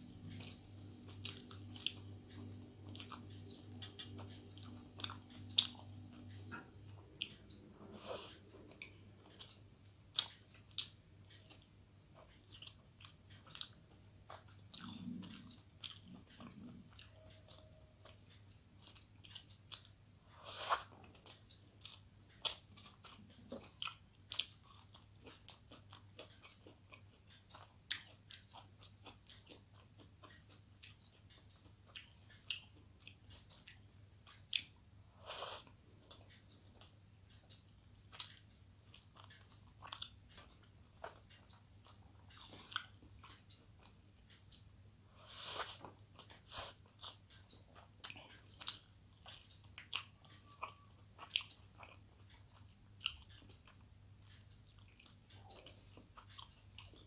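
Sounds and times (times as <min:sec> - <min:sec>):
chewing and crunching food: 0:00.1 - 0:57.0.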